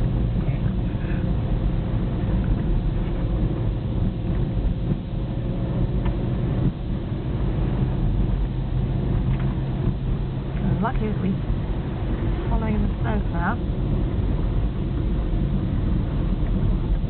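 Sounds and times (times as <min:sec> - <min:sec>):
car engine and road drone: 0:00.0 - 0:17.0.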